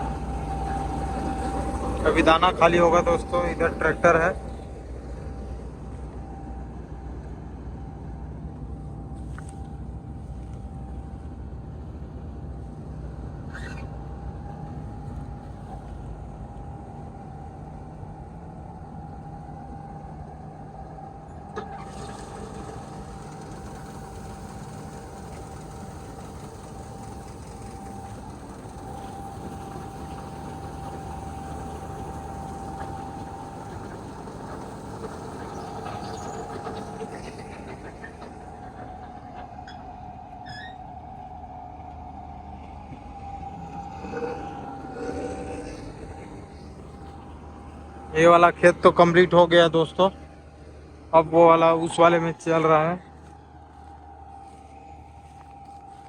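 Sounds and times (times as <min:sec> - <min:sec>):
combine harvester engine running: 0:00.0 - 0:56.0
steady whine: 0:00.0 - 0:56.0.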